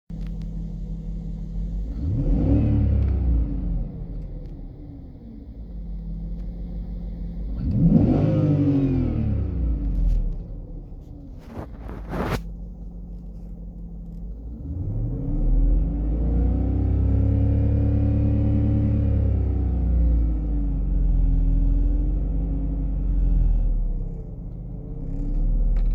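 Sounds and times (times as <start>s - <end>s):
car engine idling and revving: 0.1s - 25.9s.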